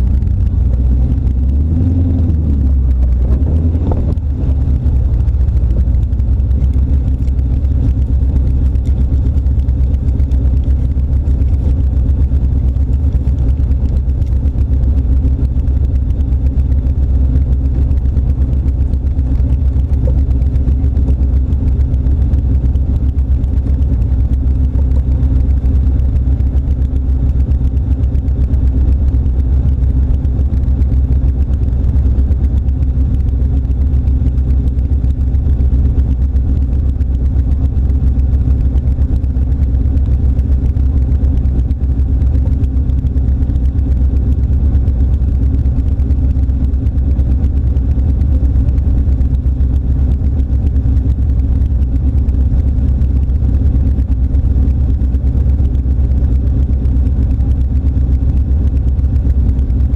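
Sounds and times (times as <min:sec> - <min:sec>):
engine idling with deep rumble: 0:00.0 - 0:59.9.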